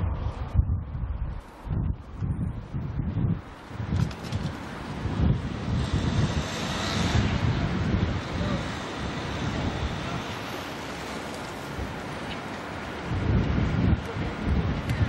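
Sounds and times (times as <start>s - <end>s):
street noise hiss: 0.0s - 15.0s
wind rumbling on microphone: 0.0s - 15.0s.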